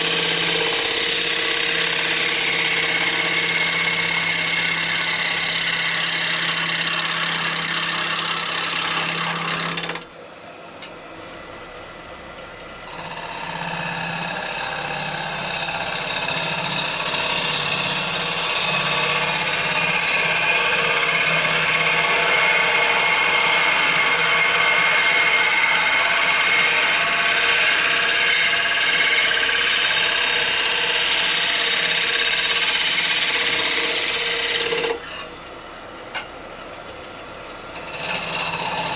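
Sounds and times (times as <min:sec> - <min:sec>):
lathe hum: 0:00.0 - 0:10.1, 0:11.1 - 0:38.9.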